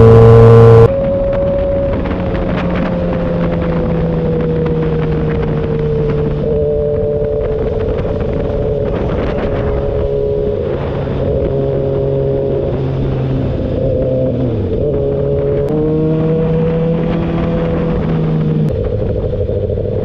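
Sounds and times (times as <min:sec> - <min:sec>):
motorcycle engine cruising: 0:00.0 - 0:20.0
wind noise: 0:00.0 - 0:20.0.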